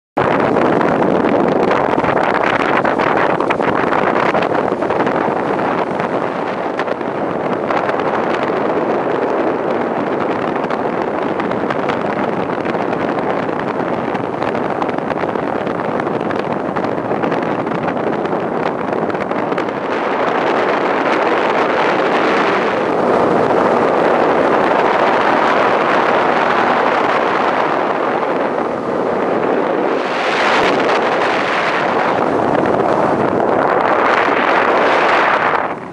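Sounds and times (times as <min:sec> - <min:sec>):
motorboat motor running: 0:00.2 - 0:35.9
wind rushing over microphone: 0:00.2 - 0:35.9.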